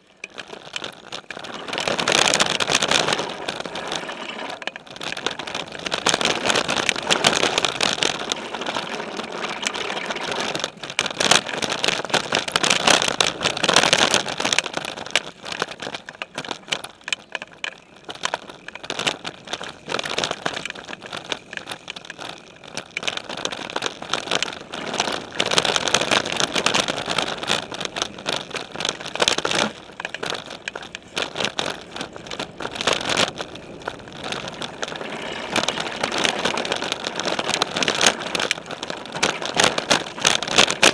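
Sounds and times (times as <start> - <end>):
bike frame rattling over bumps: 0.0 - 40.9
bike tyres crunching on dirt and leaves: 0.0 - 40.9.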